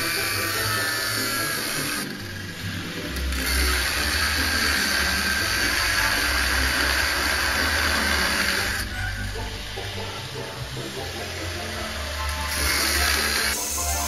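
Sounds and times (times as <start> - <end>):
angle grinder cutting metal: 0.0 - 14.0.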